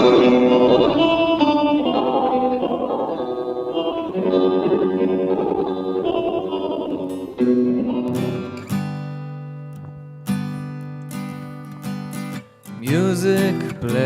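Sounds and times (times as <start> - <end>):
electric guitar picked notes: 0.0 - 14.0
strummed guitar chords: 0.0 - 14.0.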